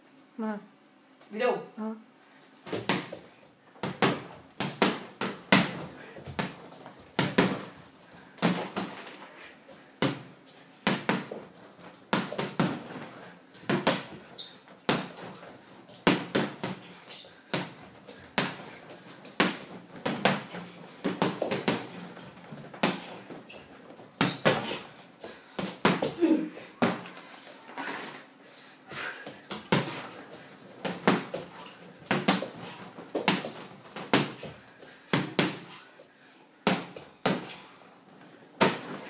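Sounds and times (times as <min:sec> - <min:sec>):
gloves punching a heavy bag: 0:02.7 - 0:09.1, 0:10.0 - 0:27.2, 0:29.1 - 0:35.8, 0:36.6 - 0:37.6, 0:38.5 - 0:39.0.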